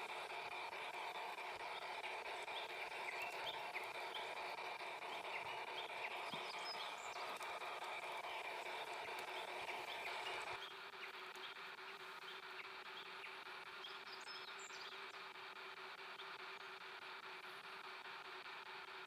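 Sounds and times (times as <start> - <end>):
model train motor hum: 0.0 - 19.0.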